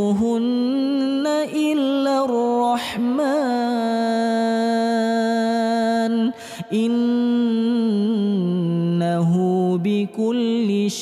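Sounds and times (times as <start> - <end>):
person chanting melodically: 0.0 - 11.0.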